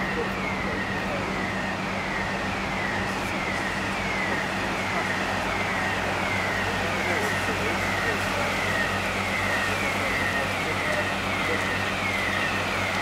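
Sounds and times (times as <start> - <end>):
electronic siren warning tone: 0.0 - 13.0.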